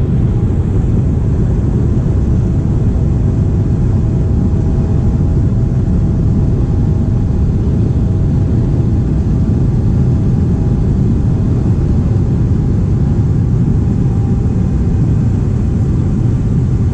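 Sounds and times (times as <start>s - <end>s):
jet engines and airflow rumble: 0.0s - 16.9s.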